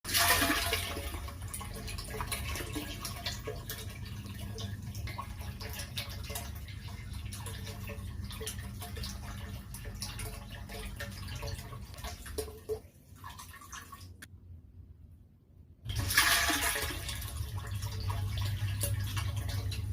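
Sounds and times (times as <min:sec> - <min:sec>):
water pump humming: 0:00.1 - 0:14.3, 0:15.9 - 0:19.9
water splashing into a tank: 0:00.1 - 0:14.3, 0:15.9 - 0:19.9.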